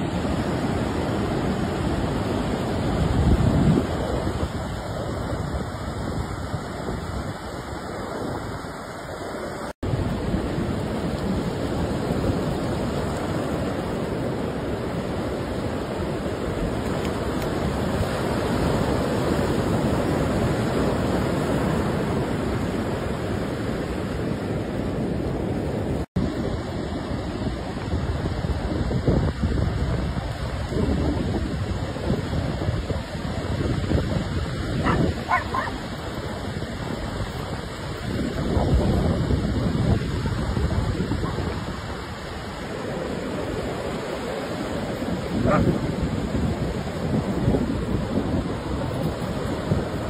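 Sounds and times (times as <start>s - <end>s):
wind buffeting microphone: 0.0s - 8.8s, 9.8s - 50.0s
ocean surf breaking: 0.0s - 50.0s.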